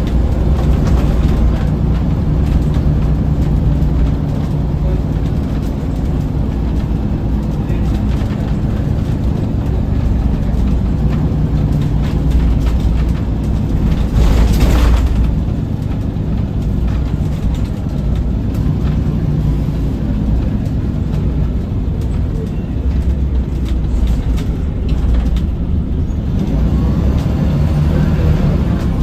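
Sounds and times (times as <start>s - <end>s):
bus engine humming: 0.0s - 29.0s
road noise: 0.0s - 29.0s.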